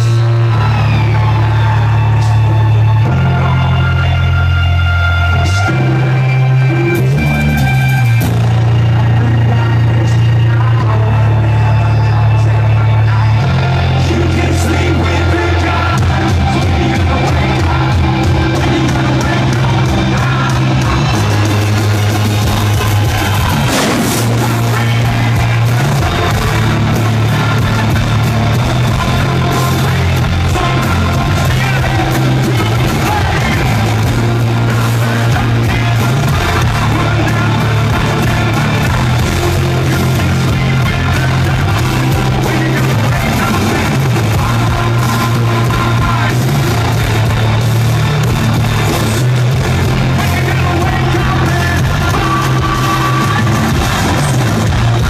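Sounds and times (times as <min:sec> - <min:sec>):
distorted guitars: 0:00.0 - 0:55.0
drums: 0:00.0 - 0:55.0
heavy bass line: 0:00.0 - 0:55.0
sung and shouted vocals: 0:00.0 - 0:55.0.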